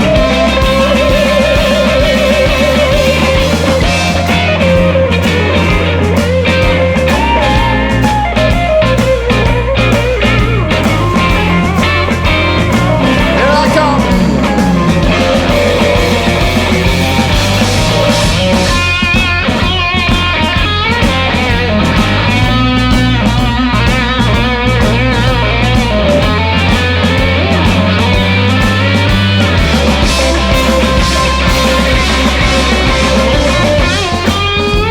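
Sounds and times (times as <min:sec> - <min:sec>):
bass guitar: 0:00.0 - 0:34.9
drum kit: 0:00.0 - 0:34.9
electric guitar lead: 0:00.0 - 0:34.9.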